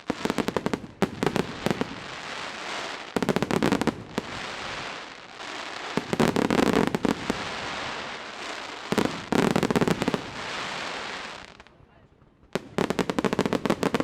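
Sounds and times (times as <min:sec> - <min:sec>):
fireworks crackling bangs: 0:00.0 - 0:11.7, 0:12.5 - 0:14.0.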